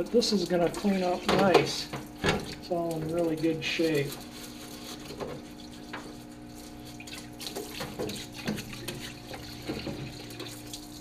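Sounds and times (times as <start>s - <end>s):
solvent splashing over metal: 0.0s - 11.0s.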